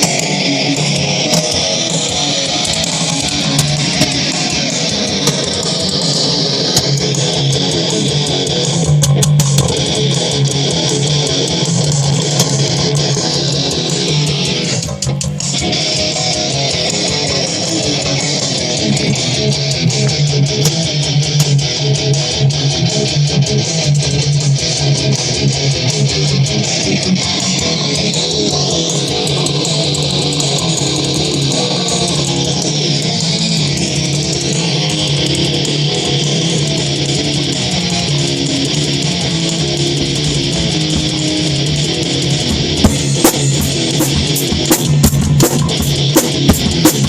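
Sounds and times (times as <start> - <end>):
loud electric guitar music: 0.0 - 47.0.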